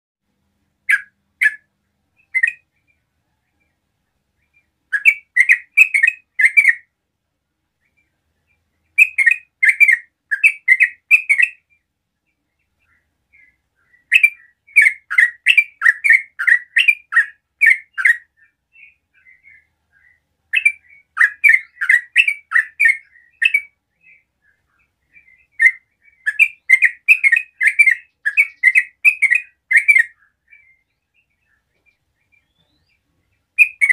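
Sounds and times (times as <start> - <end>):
bird chirping: 0.3 - 33.9.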